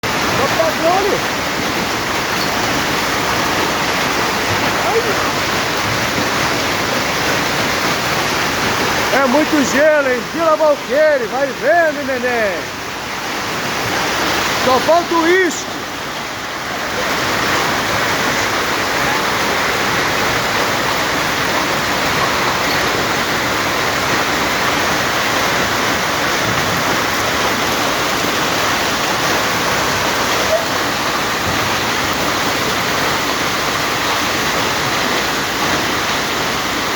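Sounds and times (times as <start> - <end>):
heavy rain and hail: 0.0 - 36.9.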